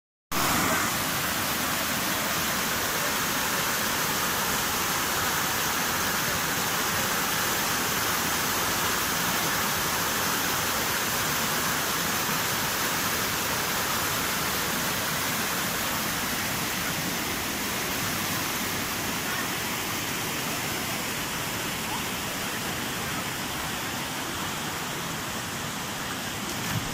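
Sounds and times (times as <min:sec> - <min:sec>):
river water flowing: 0:00.3 - 0:26.9.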